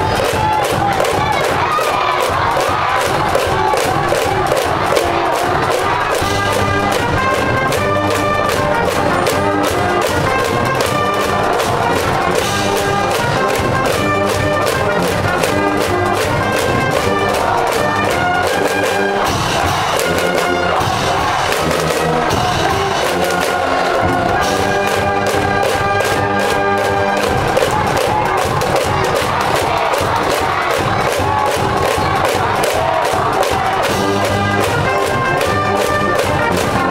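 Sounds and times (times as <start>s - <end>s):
brass band playing: 0.0s - 36.9s
steady drum beat: 0.0s - 36.9s.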